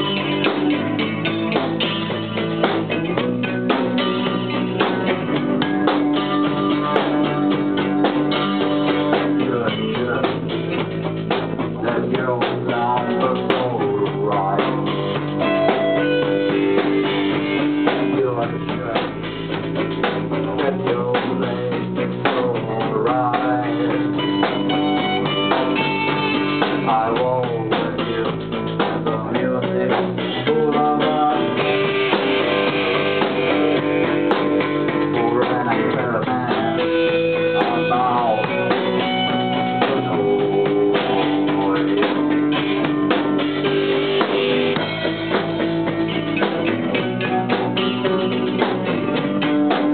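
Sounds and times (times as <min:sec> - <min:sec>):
band with guitar and drums: 0:00.0 - 0:49.9.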